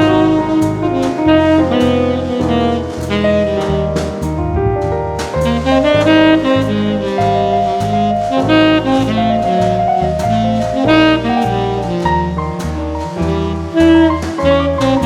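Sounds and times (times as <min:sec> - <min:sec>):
jazz drums: 0:00.0 - 0:15.0
saxophone melody: 0:00.0 - 0:15.0
walking bass line: 0:00.0 - 0:15.0.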